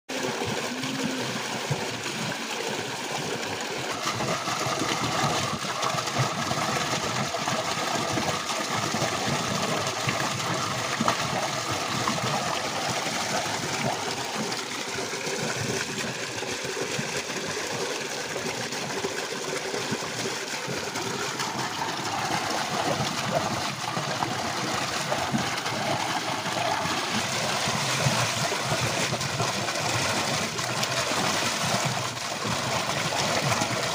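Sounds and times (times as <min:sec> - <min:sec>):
water gushing into a concrete tank: 0:00.1 - 0:33.9.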